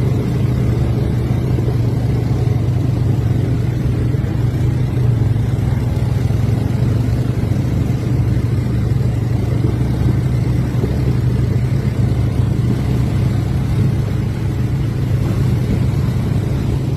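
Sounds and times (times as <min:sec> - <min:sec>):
quad bike engine droning: 0:00.0 - 0:16.9.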